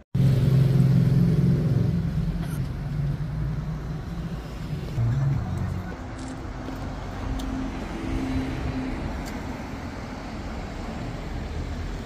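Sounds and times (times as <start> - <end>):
cars driving past: 0.2 - 12.0.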